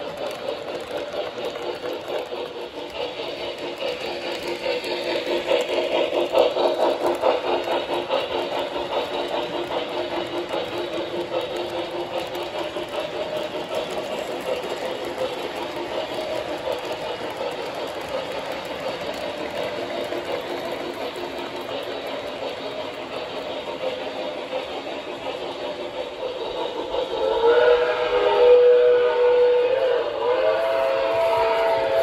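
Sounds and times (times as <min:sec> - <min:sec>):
model train wheels clattering on rails: 0:00.0 - 0:32.0.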